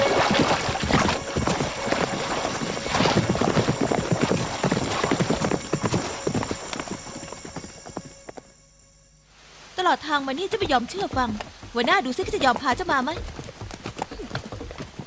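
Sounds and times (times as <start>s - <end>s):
horse hoofbeats on dusty ground: 0.0s - 8.5s, 10.0s - 15.0s.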